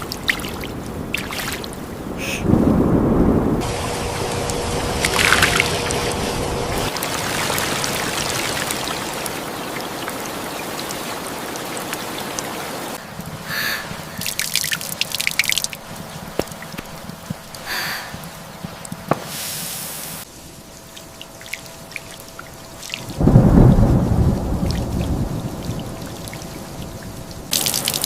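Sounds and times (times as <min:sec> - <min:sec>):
water dripping and trickling: 0:00.0 - 0:02.0, 0:03.6 - 0:06.1, 0:06.7 - 0:19.1, 0:20.3 - 0:28.0
rain falling: 0:00.0 - 0:28.0.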